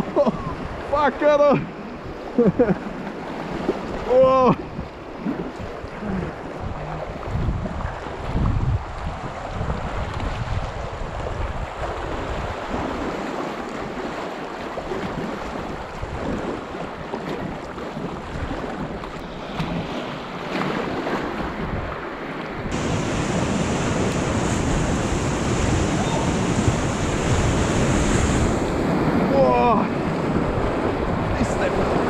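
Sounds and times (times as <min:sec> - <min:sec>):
river water rushing and splashing: 0:00.0 - 0:32.0
wind buffeting microphone: 0:03.5 - 0:14.2, 0:14.8 - 0:32.0.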